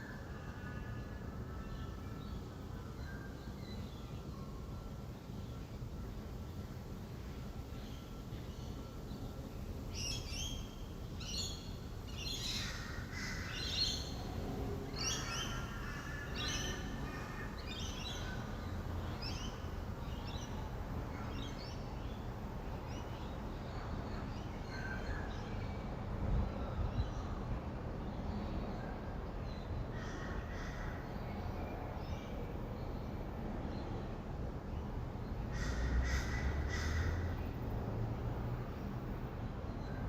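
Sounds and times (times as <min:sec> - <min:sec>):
distant traffic rumble: 0:03.7 - 0:40.0.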